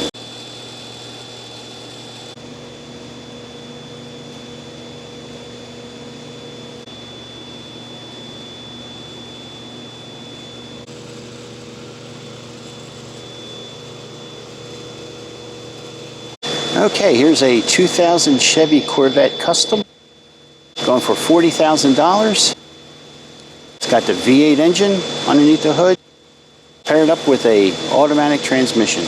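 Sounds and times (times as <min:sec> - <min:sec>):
high-pitched whine: 0:00.0 - 0:29.0
machinery hum and hiss: 0:00.0 - 0:29.0.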